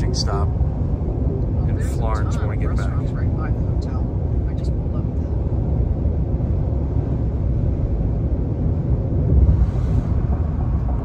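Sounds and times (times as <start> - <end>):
road rumble of tyres: 0.0 - 11.0.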